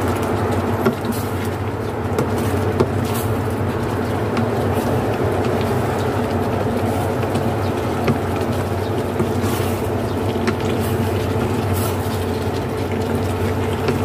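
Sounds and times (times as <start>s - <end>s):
electric fan hum: 0.0s - 14.0s.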